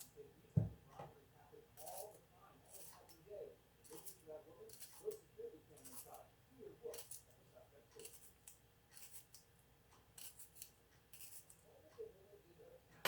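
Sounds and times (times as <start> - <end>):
fork pricking potato skins: 1.6 - 12.2.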